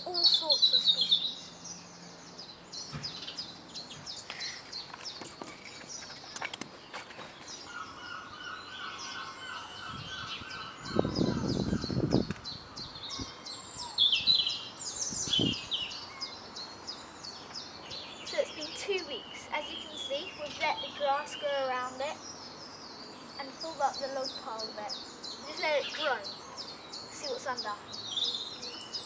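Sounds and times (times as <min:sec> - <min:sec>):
birds chirping and singing: 0:00.0 - 0:29.0.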